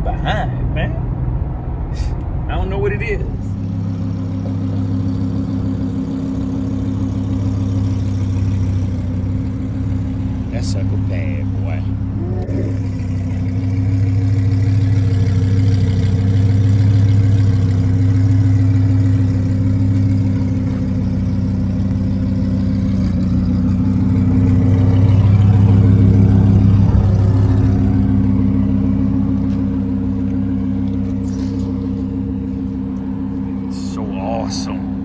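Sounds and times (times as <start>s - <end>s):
car engine humming: 0.0s - 35.0s.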